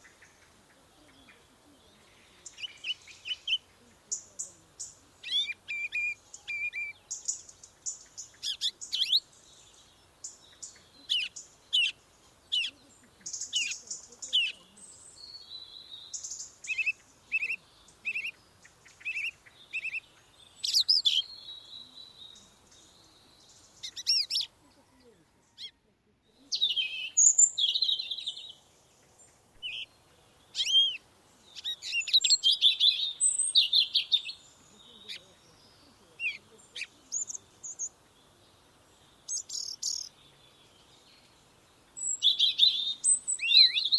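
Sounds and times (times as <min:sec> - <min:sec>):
songbirds chirping and singing: 0:00.0 - 0:43.9.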